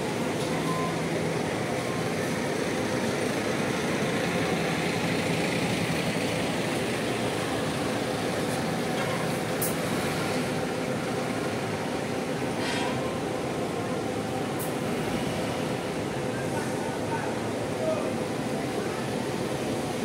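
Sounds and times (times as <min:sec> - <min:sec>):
diesel bus engines humming: 0:00.0 - 0:20.0.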